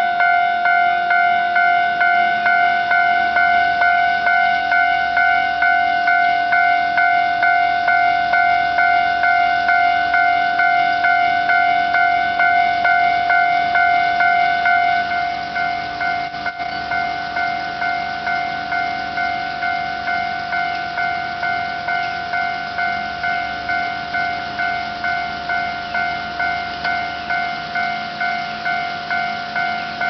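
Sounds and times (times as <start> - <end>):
level-crossing warning bell: 0.0 - 30.0.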